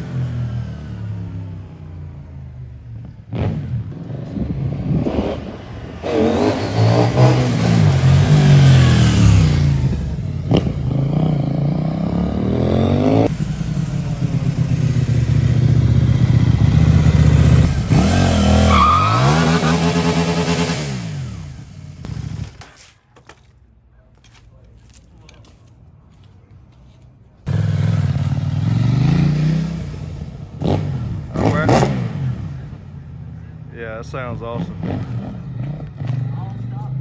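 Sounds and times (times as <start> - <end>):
motorcycle engine revving: 0.0 - 22.6, 27.5 - 33.6, 34.2 - 37.0.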